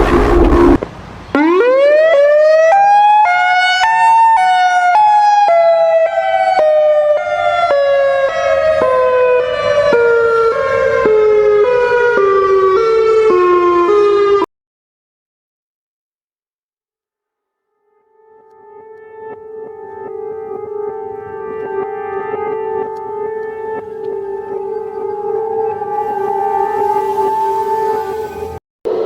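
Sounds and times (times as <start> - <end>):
emergency vehicle siren: 0.0 - 14.5, 18.6 - 29.0.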